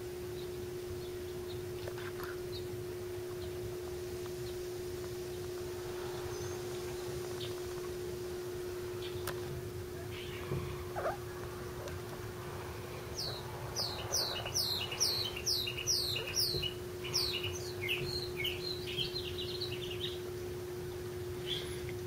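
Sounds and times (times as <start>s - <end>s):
songbird singing: 0.3s - 22.0s.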